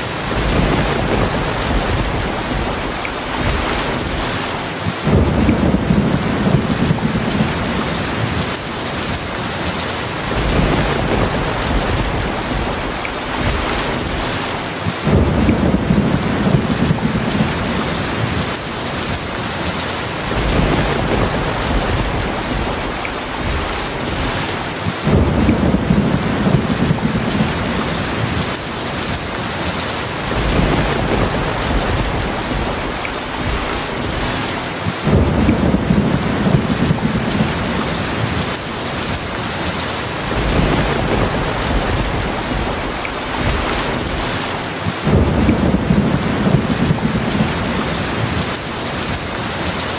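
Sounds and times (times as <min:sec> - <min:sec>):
thunder rumbling: 0:00.0 - 0:49.8
heavy rain falling: 0:00.0 - 0:49.9.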